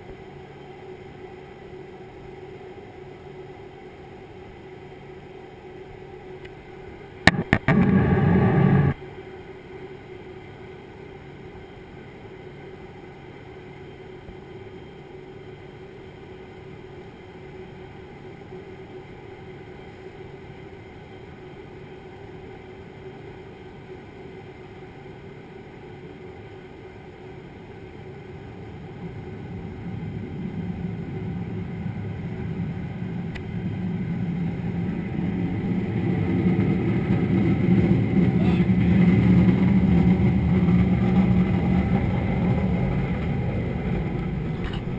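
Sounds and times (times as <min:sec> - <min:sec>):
jet engine roar in cabin: 0:00.0 - 0:44.9.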